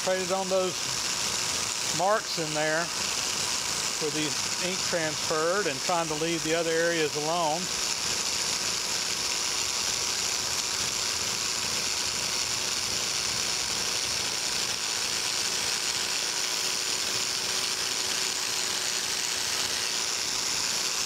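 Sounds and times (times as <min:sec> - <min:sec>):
power scraper scraping metal: 0:00.0 - 0:21.0.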